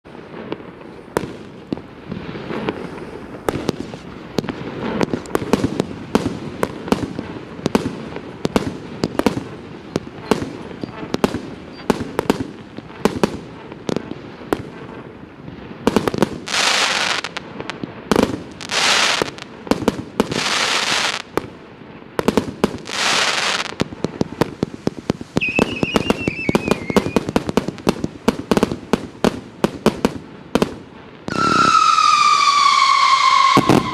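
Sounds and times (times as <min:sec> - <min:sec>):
fireworks pops and bangs: 0:00.0 - 0:33.9
fireworks hissing bursts: 0:00.1 - 0:21.4, 0:22.1 - 0:33.9.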